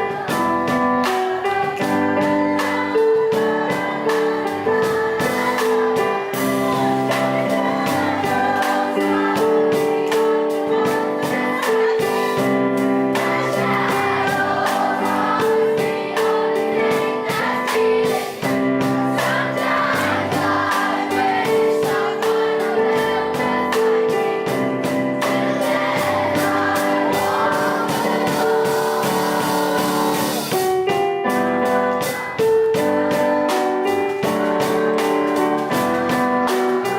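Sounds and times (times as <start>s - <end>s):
voices singing: 0.0s - 30.6s
piano chords: 0.0s - 36.9s
steady drum beat: 0.0s - 36.9s.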